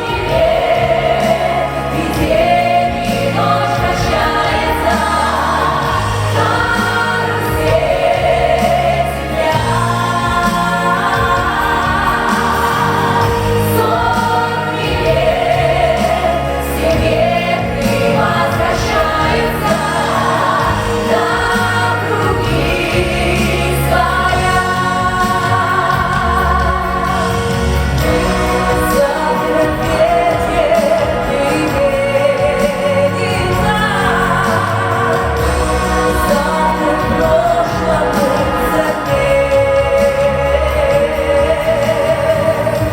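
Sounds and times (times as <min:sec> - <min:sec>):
choir singing in harmony: 0:00.0 - 0:42.9
instrumental accompaniment with bass: 0:00.0 - 0:42.9.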